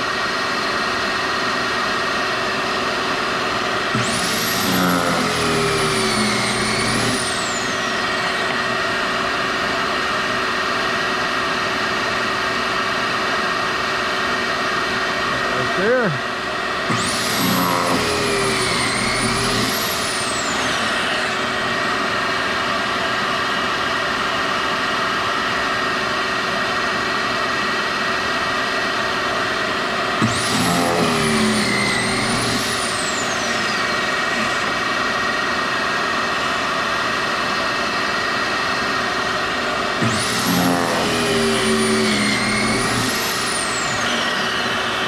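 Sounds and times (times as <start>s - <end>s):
drill motor spinning up: 0.0s - 45.0s
dust extractor whine: 0.0s - 45.0s.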